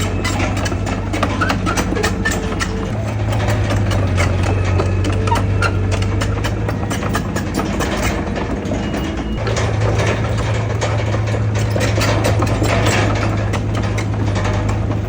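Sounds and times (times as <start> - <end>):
heavy diesel engine running: 0.0 - 15.0
small clicks and knocks: 0.0 - 15.0.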